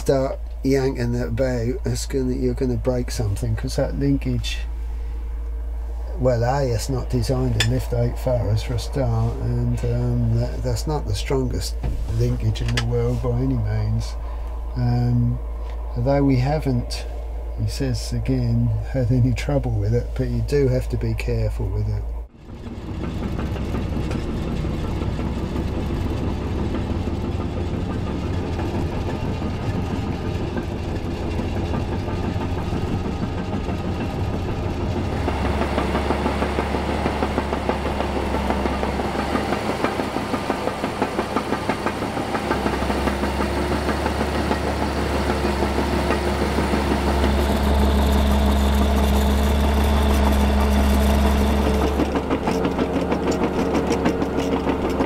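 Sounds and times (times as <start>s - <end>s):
diesel engine running under load: 0.0s - 55.0s
steel track clatter: 6.2s - 21.9s, 22.5s - 55.0s.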